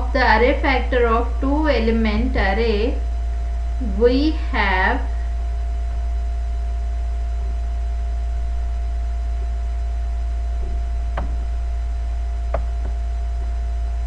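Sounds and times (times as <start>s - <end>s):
electrical mains hum: 0.0s - 14.0s
faint high tone and hiss: 0.0s - 14.0s.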